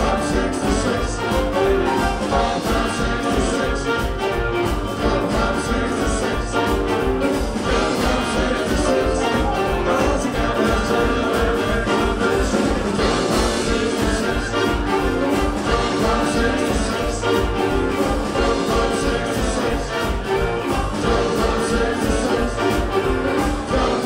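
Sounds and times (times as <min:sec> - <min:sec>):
swing jazz band playing: 0:00.0 - 0:24.0
tenor saxophone: 0:00.0 - 0:24.0
trumpet: 0:00.0 - 0:24.0.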